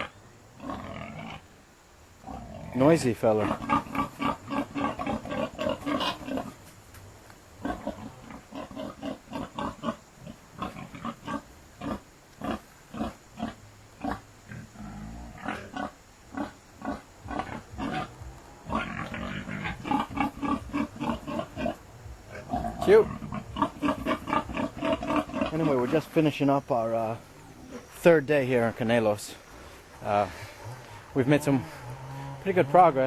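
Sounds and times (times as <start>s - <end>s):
pig grunting: 0.0s - 1.4s, 2.2s - 6.6s, 7.6s - 26.2s, 29.7s - 33.0s.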